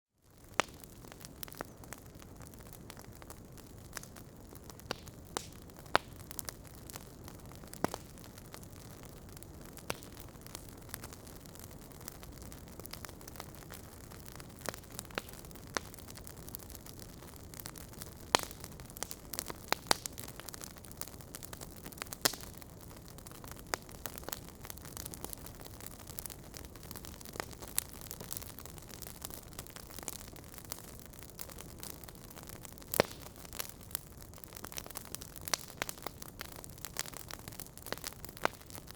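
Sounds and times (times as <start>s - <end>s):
logs burning in fireplace: 0.2s - 38.9s.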